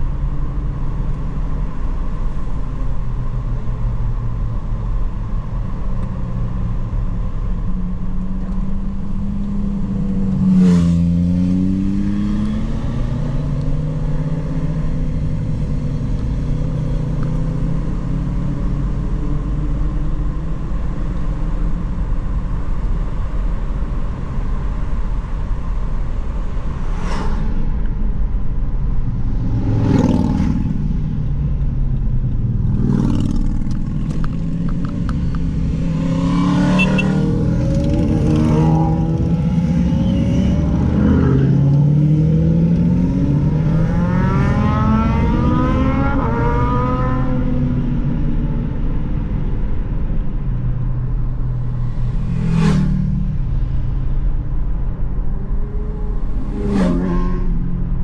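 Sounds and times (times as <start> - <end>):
passing vehicles: 0.0 - 58.0
vehicle engine and road noise: 0.0 - 58.0.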